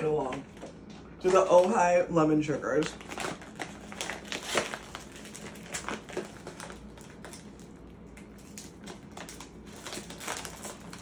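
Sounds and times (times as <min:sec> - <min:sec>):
cookie packaging crinkling: 0:00.0 - 0:11.0.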